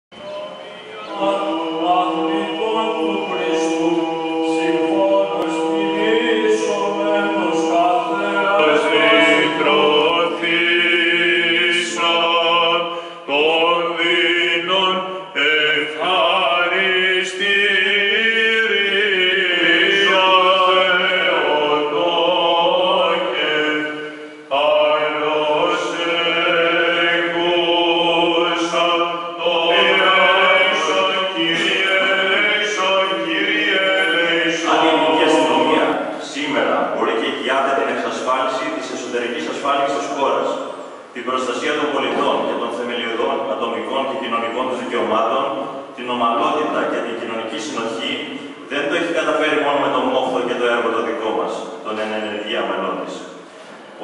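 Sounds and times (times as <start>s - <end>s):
men chanting with low drone: 0.2s - 43.8s.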